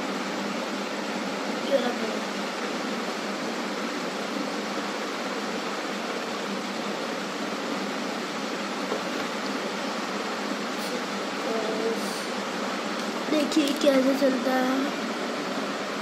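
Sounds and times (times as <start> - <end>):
ceiling fan running: 0.0 - 16.0.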